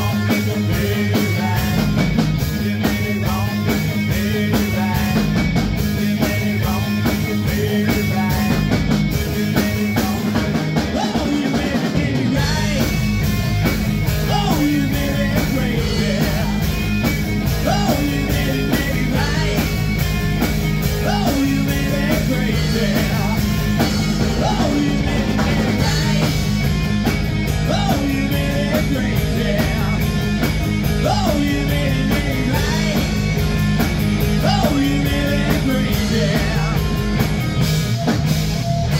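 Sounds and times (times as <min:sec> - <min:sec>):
man singing: 0:00.0 - 0:13.2, 0:14.2 - 0:20.1, 0:20.9 - 0:26.6, 0:27.5 - 0:33.4, 0:34.2 - 0:37.2
rock band playing: 0:00.0 - 0:38.9.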